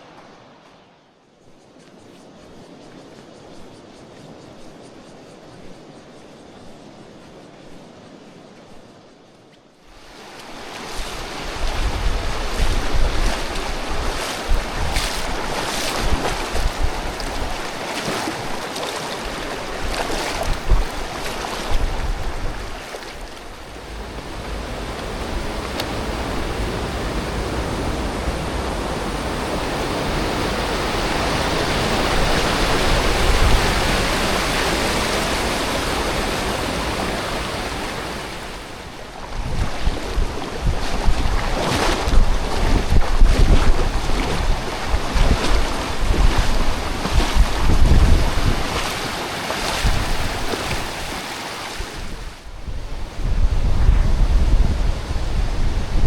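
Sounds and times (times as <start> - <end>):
creek water rushing: 9.9 - 56.0
wind buffeting microphone: 10.0 - 56.0.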